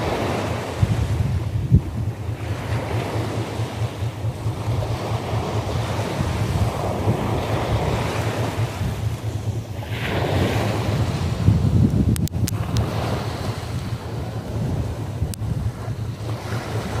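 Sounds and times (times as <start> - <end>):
waves breaking on shore: 0.0 - 17.0
wind buffeting microphone: 0.0 - 17.0.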